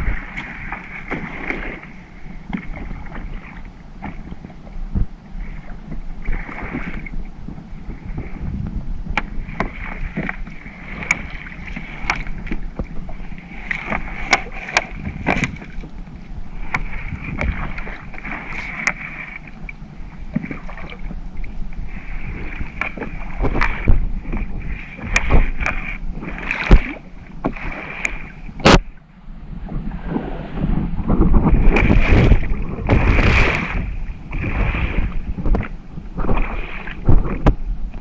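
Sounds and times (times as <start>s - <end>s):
boat engine hum: 0.0s - 38.0s.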